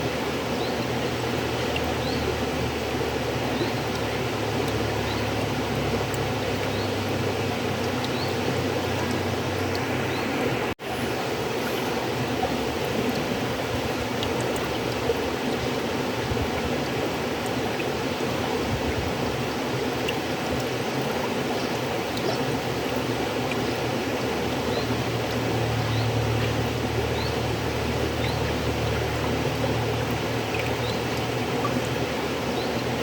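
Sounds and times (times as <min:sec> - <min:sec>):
river water flowing: 0:00.0 - 0:33.0
small water splashes: 0:00.0 - 0:33.0.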